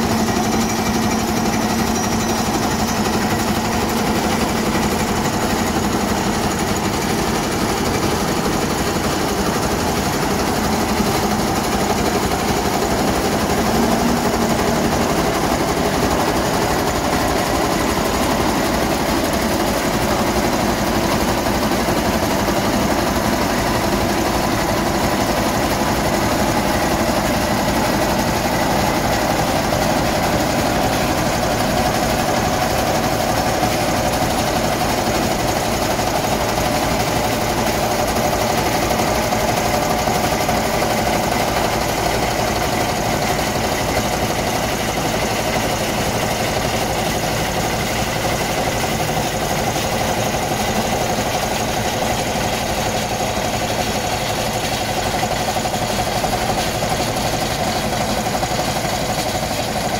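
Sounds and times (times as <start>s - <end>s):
vibratory roller running: 0.0s - 59.9s.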